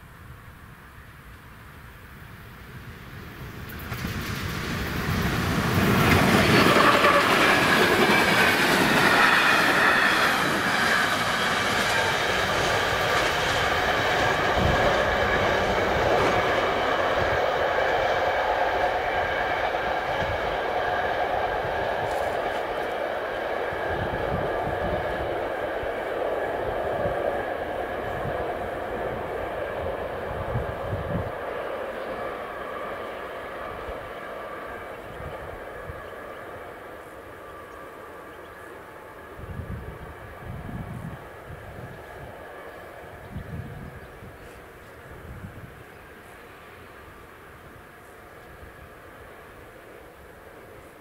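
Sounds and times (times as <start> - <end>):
passenger train rumbling: 0.0 - 51.0
train whine: 0.0 - 51.0.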